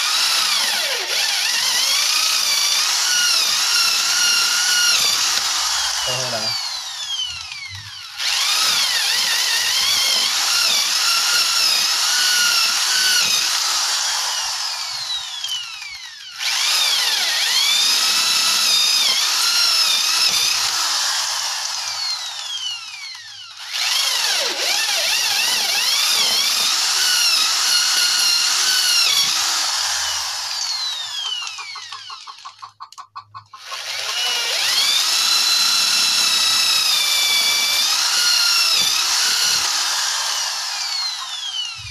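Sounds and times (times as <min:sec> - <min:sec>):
electric drill boring into wood: 0:00.0 - 0:32.6, 0:33.5 - 0:41.9.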